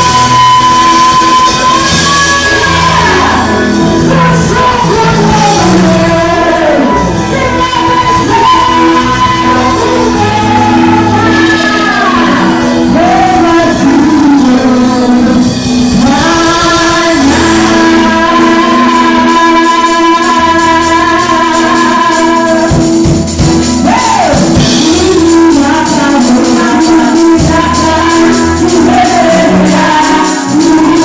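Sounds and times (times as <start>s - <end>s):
drums: 0.0s - 31.0s
keyboard: 0.0s - 31.0s
woman singing into microphone: 0.0s - 31.0s.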